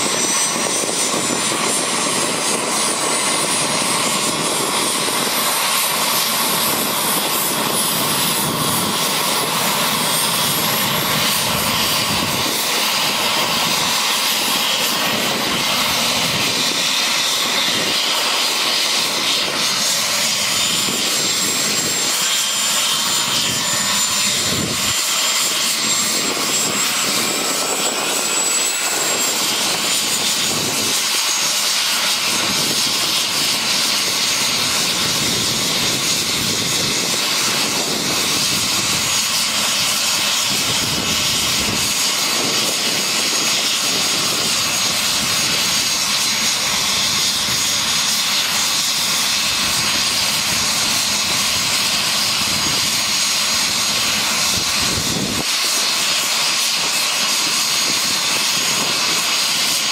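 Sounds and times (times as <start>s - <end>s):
helicopter rotor rush: 0.0s - 59.9s
turbine whine: 0.0s - 59.9s.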